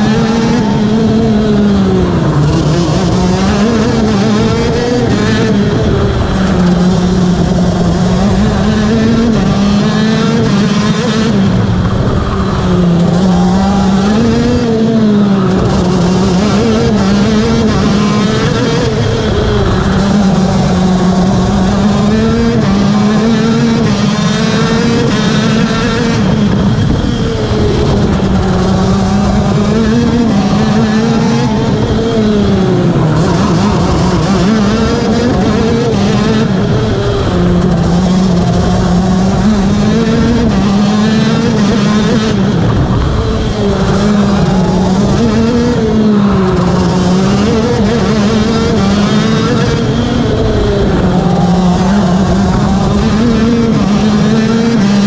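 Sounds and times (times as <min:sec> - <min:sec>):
kart engines revving: 0:00.0 - 0:55.0.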